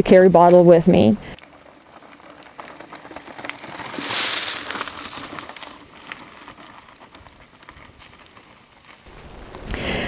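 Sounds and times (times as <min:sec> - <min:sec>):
bike tyres rustling through leaves: 0:01.4 - 0:10.0.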